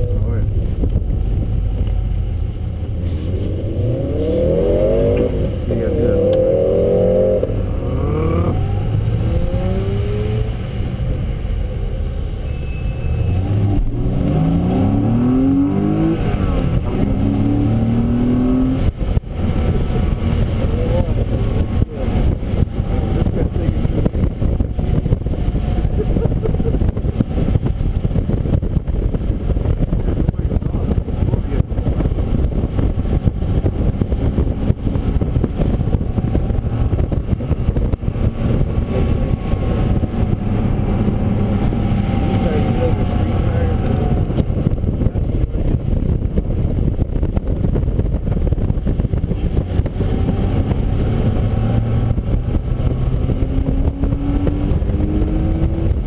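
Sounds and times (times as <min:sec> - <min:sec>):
car engine accelerating: 0:00.0 - 0:56.0
engine crackles: 0:00.0 - 0:56.0
wet-road noise: 0:00.0 - 0:56.0
wind noise: 0:00.0 - 0:56.0.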